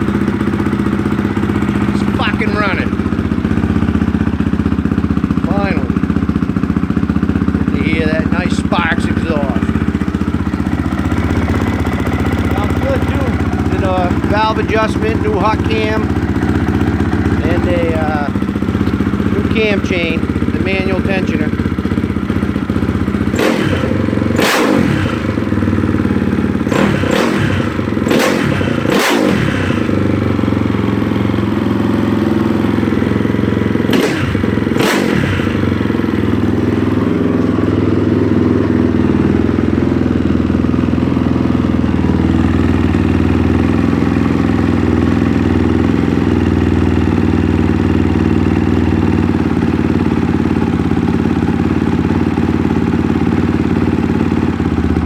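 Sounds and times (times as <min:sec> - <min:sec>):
motorcycle engine revving and idling: 0:00.0 - 0:55.0.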